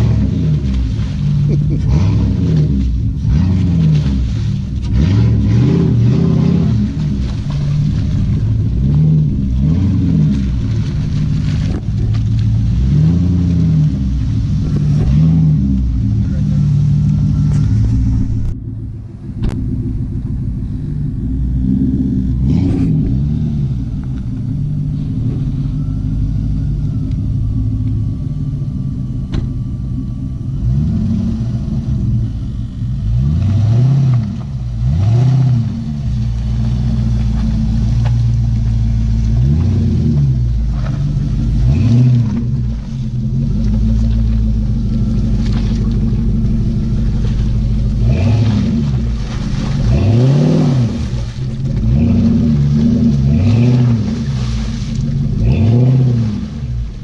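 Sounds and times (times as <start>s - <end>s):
engine rumbling and revving: 0.0s - 57.0s.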